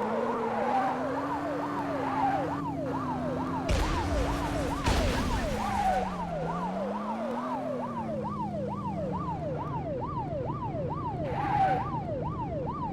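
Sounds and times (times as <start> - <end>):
cartoon police siren yelp: 0.0 - 12.9.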